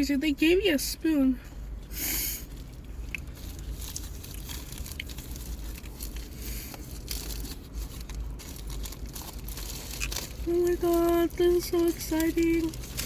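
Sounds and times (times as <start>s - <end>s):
wrapping crinkling and tearing: 2.4s - 13.0s.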